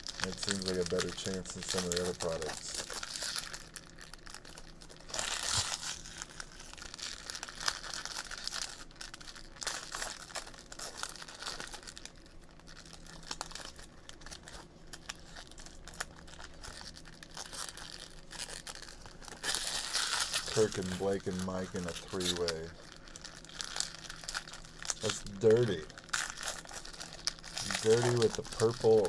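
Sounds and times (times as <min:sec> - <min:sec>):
card pack wrappers tearing and crinkling: 0:00.0 - 0:29.0.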